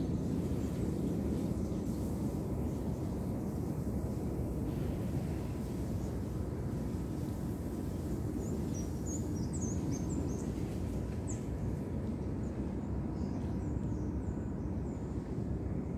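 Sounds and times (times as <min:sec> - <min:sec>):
low outdoor rumble: 0:00.0 - 0:15.9.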